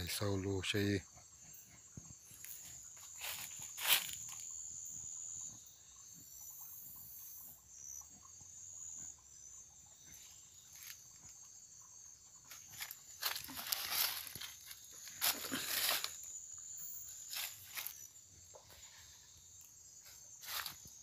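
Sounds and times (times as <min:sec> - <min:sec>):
night insects shrilling: 0:00.0 - 0:08.0, 0:08.9 - 0:21.0.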